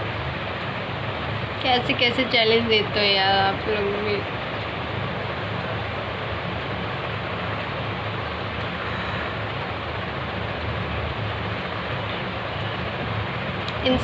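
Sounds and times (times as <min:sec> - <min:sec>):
low hum: 0:00.0 - 0:14.0
steady rushing noise: 0:00.0 - 0:14.0.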